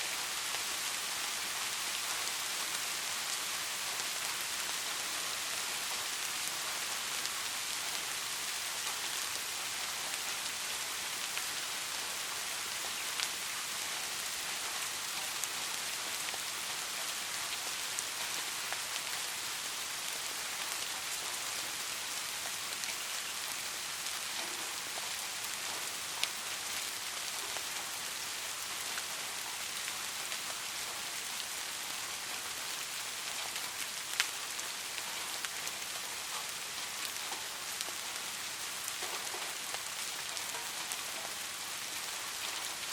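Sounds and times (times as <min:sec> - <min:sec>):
steady rain hissing: 0:00.0 - 0:42.9.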